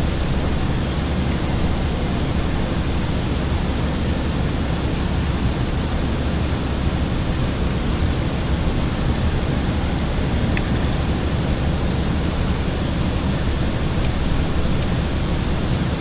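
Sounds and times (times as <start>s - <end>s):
train carriage running rumble: 0.0s - 16.0s.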